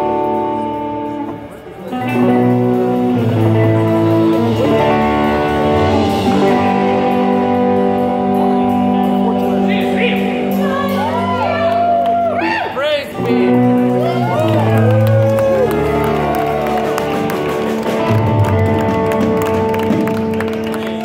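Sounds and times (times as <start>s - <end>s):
bass: 0.0s - 21.0s
drums: 0.0s - 21.0s
electric guitar chords: 0.0s - 21.0s.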